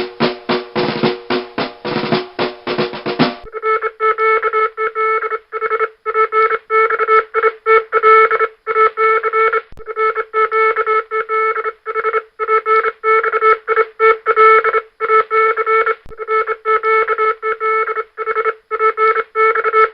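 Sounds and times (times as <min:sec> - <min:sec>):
morse code beeps: 0:03.0 - 0:19.9.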